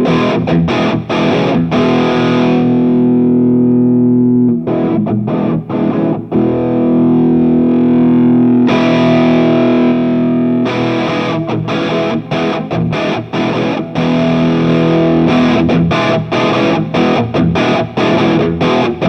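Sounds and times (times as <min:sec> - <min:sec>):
distorted electric guitar: 0:00.0 - 0:19.0.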